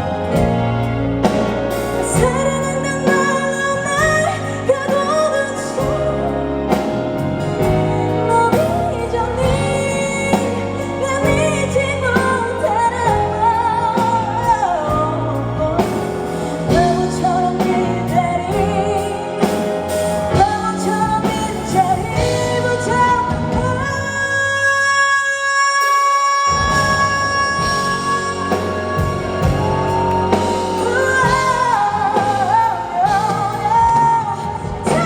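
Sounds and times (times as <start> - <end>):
live pop ballad through pa: 0.0 - 35.0.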